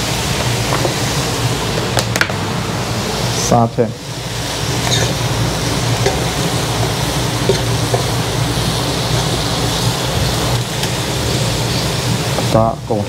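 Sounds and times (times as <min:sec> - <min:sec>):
low hum: 0:00.0 - 0:12.3
vegetables sizzling in wok: 0:00.0 - 0:13.0.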